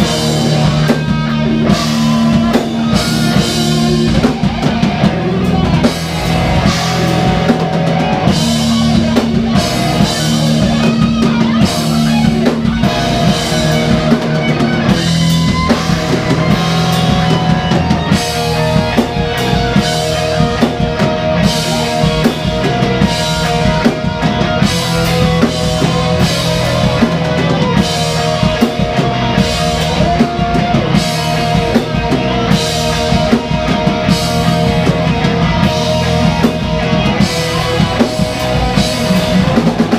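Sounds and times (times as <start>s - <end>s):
drum kit: 0.0s - 39.9s
rock band playing: 0.0s - 39.9s.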